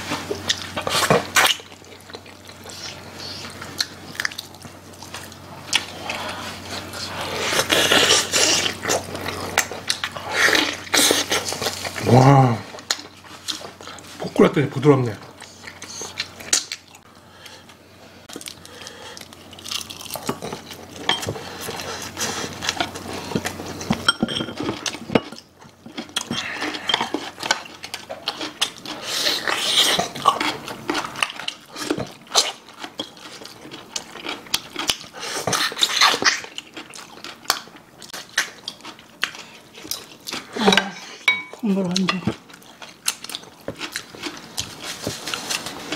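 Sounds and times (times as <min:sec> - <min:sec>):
person chewing: 0:00.0 - 0:14.4, 0:15.3 - 0:45.9.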